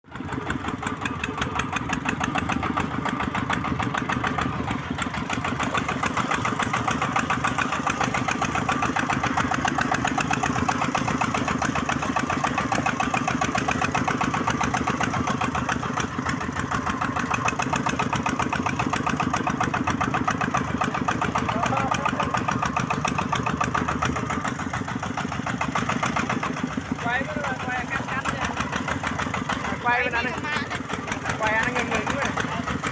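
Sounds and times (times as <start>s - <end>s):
diesel engine chugging: 0.0s - 32.9s.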